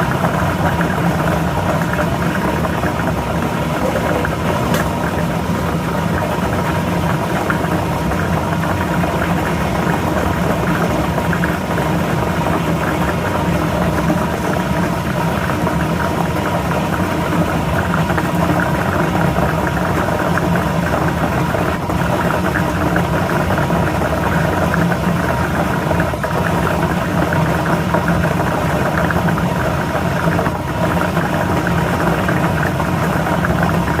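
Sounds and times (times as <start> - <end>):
lottery machine motor humming: 0.0 - 34.0.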